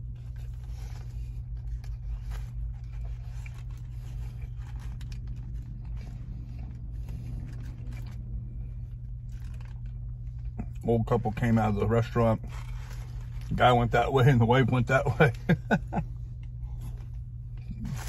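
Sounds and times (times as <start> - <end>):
car engine idling hum: 0.0 - 18.0
foil wrapper crinkling: 0.0 - 18.0.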